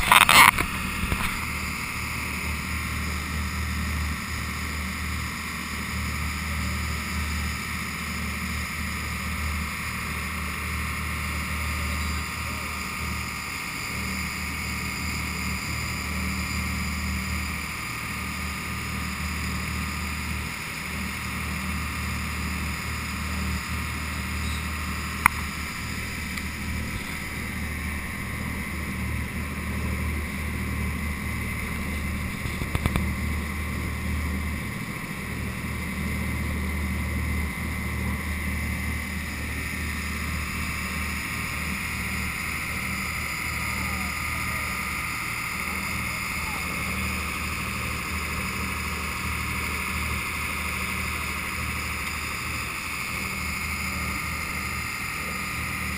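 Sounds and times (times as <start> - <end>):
motor boat engine humming: 0.0 - 55.9.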